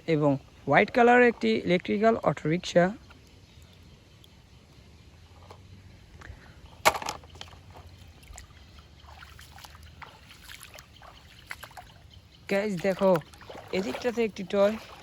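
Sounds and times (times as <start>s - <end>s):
muddy water splashing: 0.0s - 15.0s.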